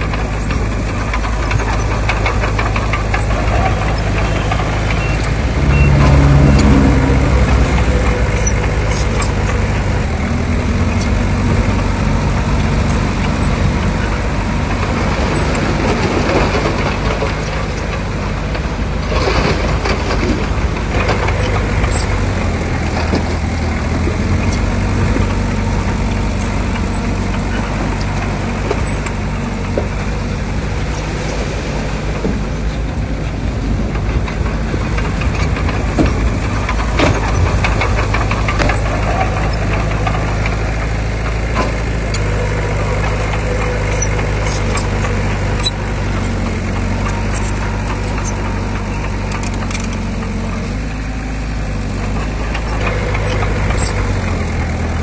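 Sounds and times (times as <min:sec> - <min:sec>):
diesel machinery engine hum: 0:00.0 - 0:55.0.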